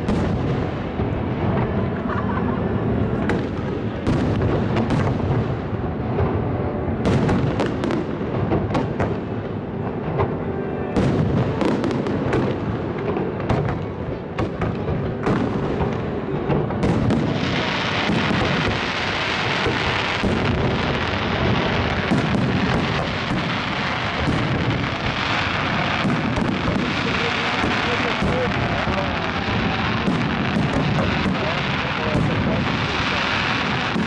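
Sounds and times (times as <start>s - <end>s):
dense steady hiss: 0.0s - 34.0s
fireworks bangs and booms: 0.0s - 34.0s.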